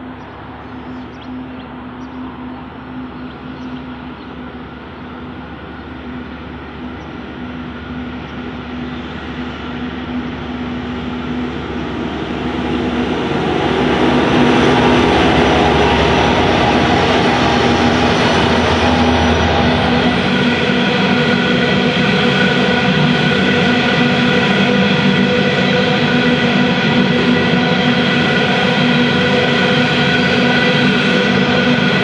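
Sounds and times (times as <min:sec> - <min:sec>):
diesel locomotive engines humming: 0:00.0 - 0:32.0.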